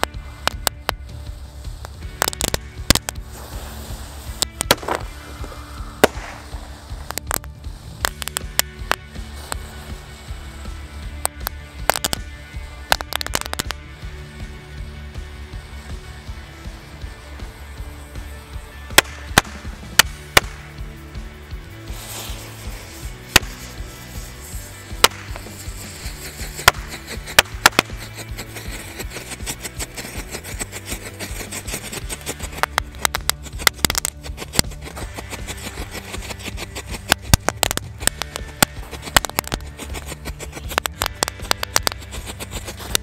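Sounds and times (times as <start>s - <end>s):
background music: 0.0s - 43.0s
firecrackers popping and crackling: 0.0s - 43.0s.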